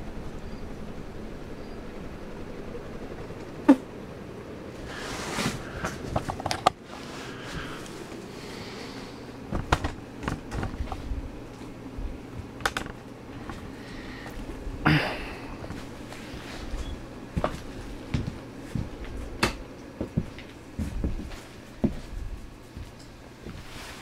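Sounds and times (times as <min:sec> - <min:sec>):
ceiling fan humming: 0:00.0 - 0:24.0.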